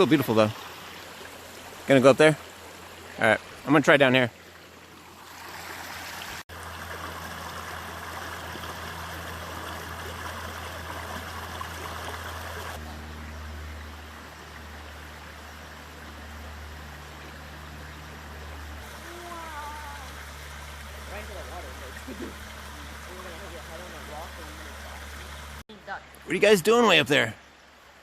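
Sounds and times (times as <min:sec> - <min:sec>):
creek water rushing: 0:00.0 - 0:28.0.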